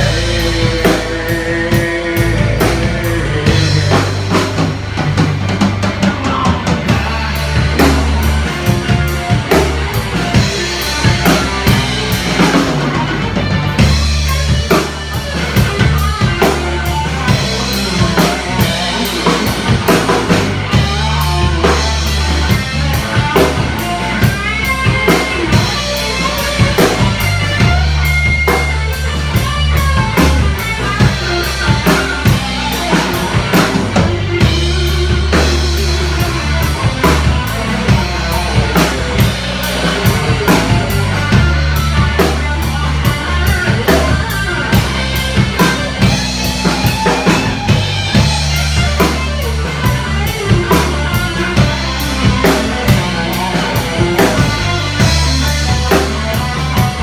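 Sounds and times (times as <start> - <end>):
drum kit beat: 0.0 - 57.0
electric bass: 0.0 - 57.0
electric guitar playing: 0.0 - 57.0.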